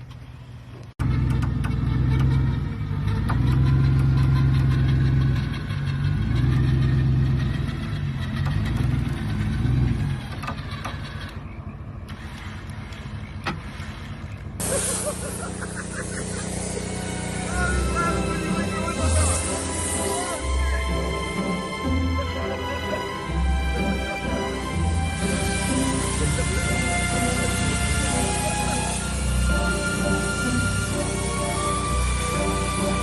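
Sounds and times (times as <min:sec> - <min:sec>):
truck engine revving: 0:00.9 - 0:33.0.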